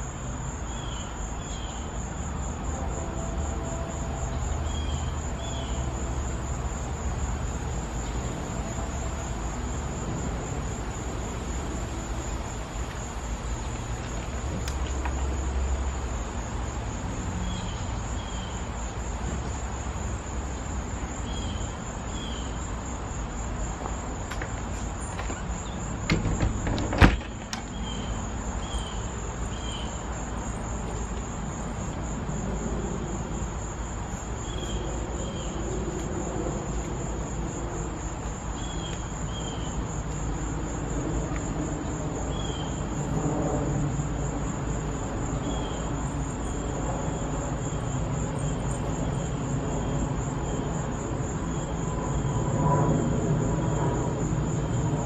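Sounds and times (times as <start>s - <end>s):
distant traffic rumble: 0.0s - 55.0s
insects trilling: 0.0s - 55.0s.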